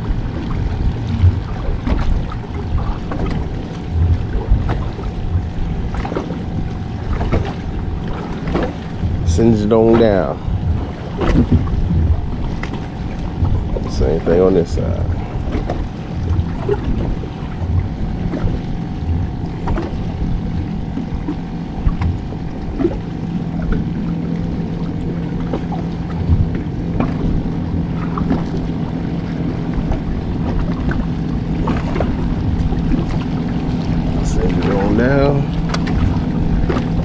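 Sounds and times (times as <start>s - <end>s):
water lapping around boat: 0.0s - 37.0s
wind on microphone: 0.0s - 37.0s.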